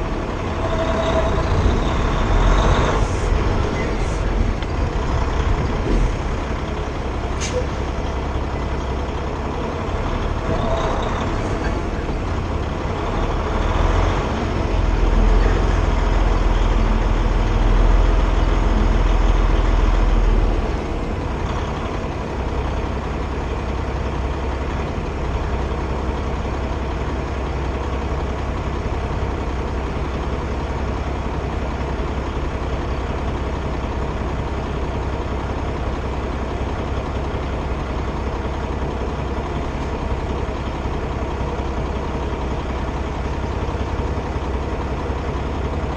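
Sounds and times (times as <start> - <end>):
diesel truck engine rumbling: 0.0 - 45.9.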